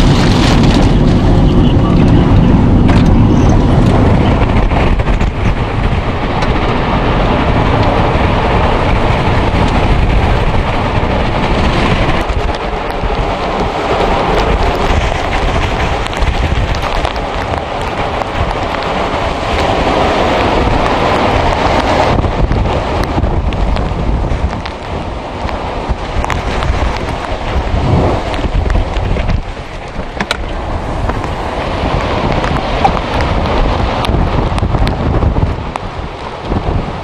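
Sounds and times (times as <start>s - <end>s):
rain striking vehicle: 0.0s - 37.0s
storm wind on microphone: 0.0s - 37.0s.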